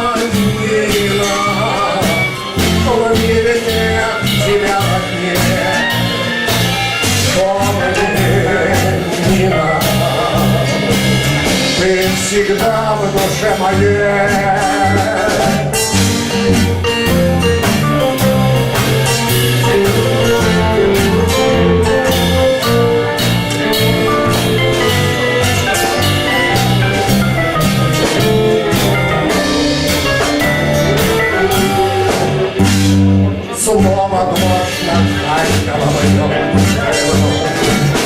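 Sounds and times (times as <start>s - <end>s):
live band playing: 0.0s - 38.0s.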